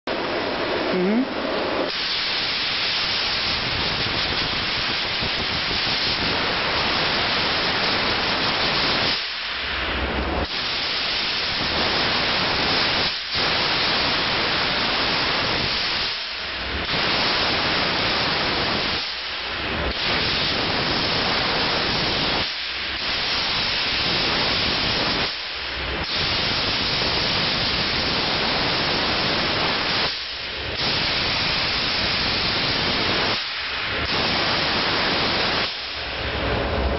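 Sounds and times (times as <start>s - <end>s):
steam jet hissing: 0.1s - 36.9s.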